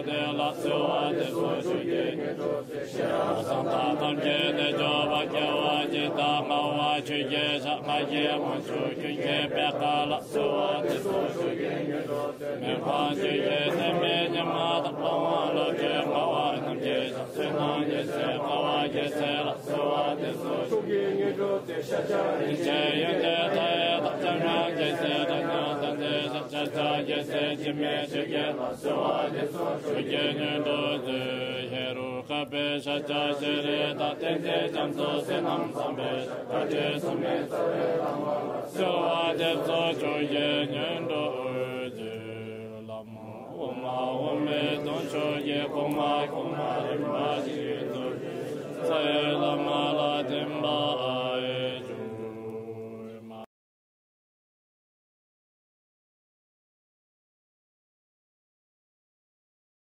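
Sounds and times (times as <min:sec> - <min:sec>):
person chanting prayers: 0:00.0 - 0:53.5.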